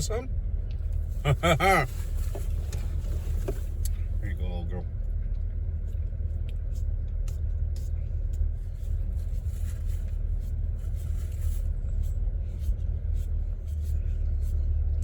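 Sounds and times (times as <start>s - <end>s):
vehicle rumble inside van: 0.0s - 15.0s.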